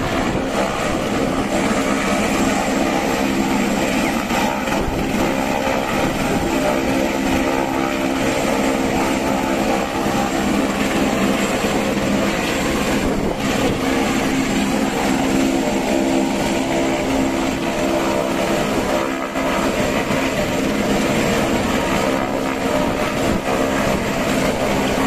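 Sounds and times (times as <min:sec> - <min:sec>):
helicopter engine and rotor running: 0:00.0 - 0:25.0.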